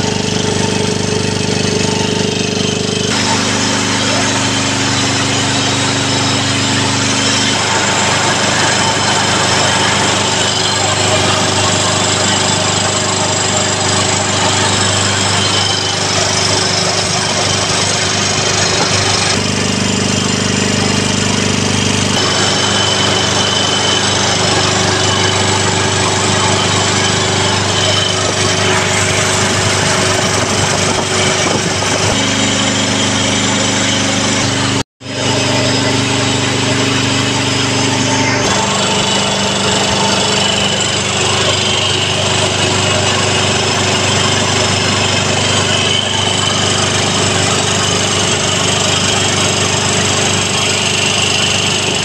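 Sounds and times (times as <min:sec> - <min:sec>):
air compressor running: 0:00.0 - 0:52.0.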